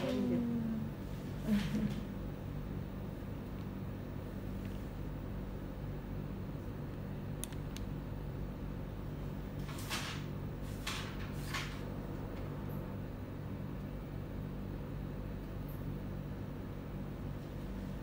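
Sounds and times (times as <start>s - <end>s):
low hum of room equipment: 0.0s - 18.0s.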